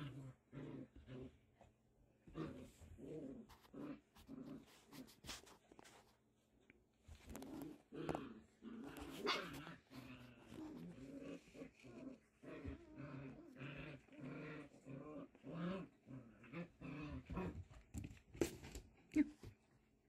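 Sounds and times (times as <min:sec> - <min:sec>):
puppies growling: 0:00.0 - 0:05.5, 0:07.1 - 0:18.0.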